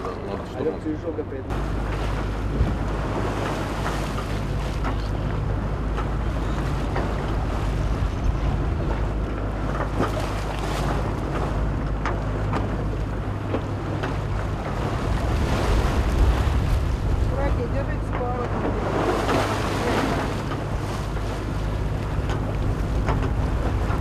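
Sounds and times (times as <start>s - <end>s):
boat engine drone: 0.0s - 24.0s
choppy sea water slapping: 0.0s - 24.0s
wind buffeting microphone: 0.0s - 24.0s.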